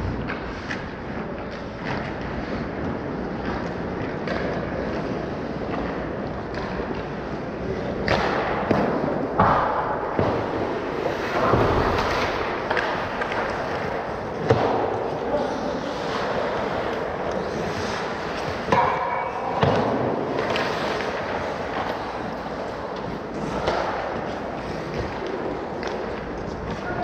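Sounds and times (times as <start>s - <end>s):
hockey sticks knocking puck: 0.0s - 27.0s.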